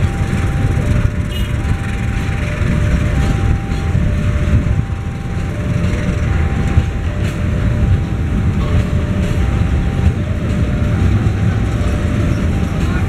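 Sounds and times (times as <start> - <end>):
rail wagons rumbling on track: 0.0 - 13.0
two-note electronic tone: 0.0 - 13.0.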